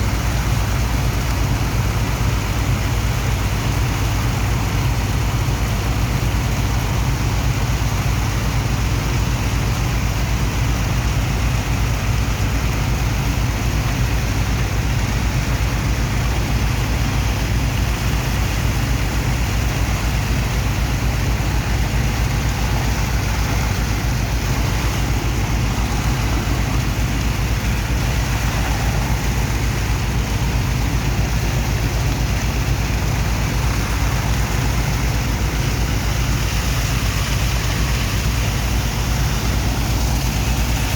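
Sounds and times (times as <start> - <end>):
hiss of water and sand: 0.0 - 40.9
pump engine low hum: 0.0 - 40.9.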